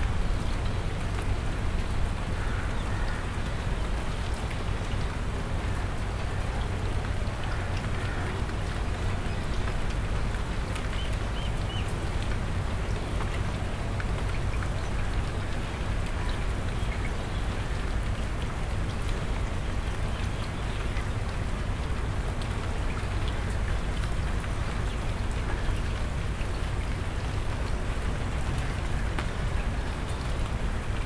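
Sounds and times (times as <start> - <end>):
rain on concrete: 0.0 - 31.0.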